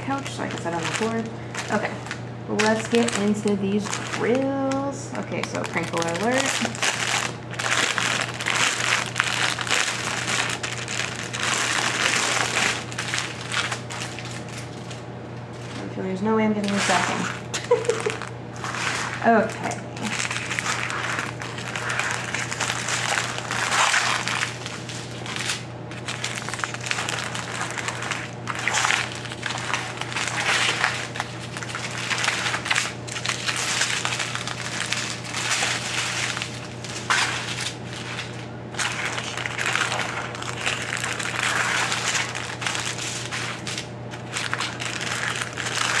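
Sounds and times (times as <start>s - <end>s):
plastic bags crinkling: 0.0s - 15.9s, 16.5s - 46.0s.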